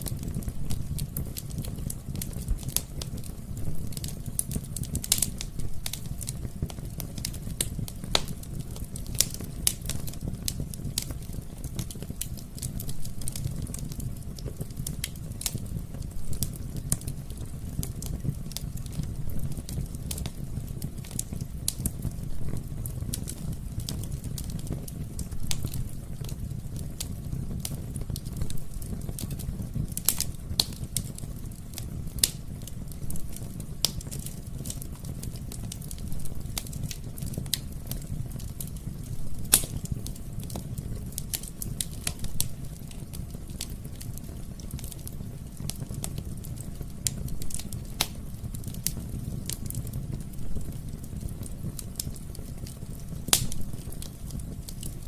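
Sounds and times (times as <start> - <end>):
fire crackling and popping: 0.0 - 55.0
wood fire rumbling: 0.0 - 55.0.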